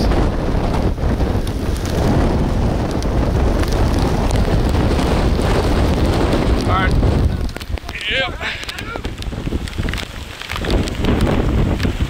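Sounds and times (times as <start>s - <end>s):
rain: 0.0s - 12.0s
storm wind buffeting microphone: 0.0s - 12.0s.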